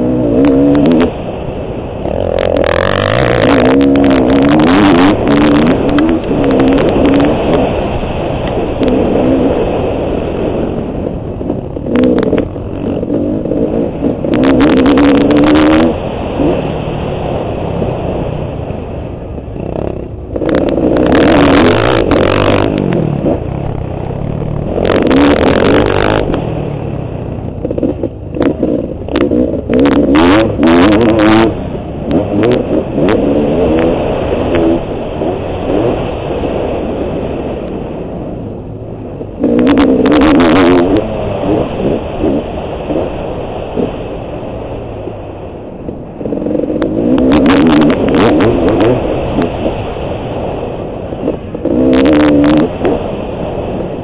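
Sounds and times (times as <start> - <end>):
two-stroke motorcycle engine revving: 0.0 - 37.8, 38.8 - 45.0, 45.7 - 54.0.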